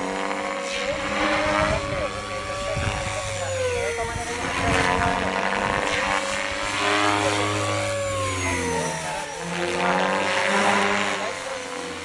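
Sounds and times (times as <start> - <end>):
rc helicopter flying past: 0.0 - 12.0.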